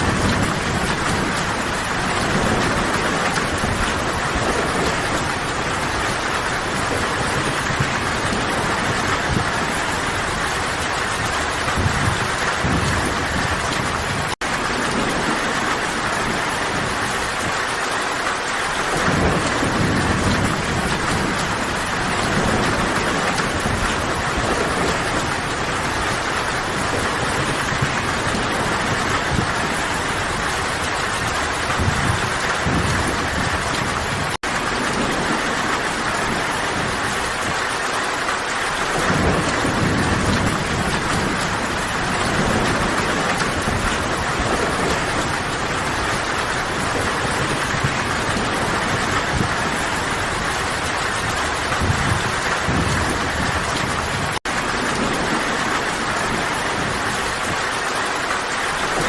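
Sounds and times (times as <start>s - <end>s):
heavy rain falling: 0.0s - 59.0s
low thunder rumbling: 0.0s - 59.0s.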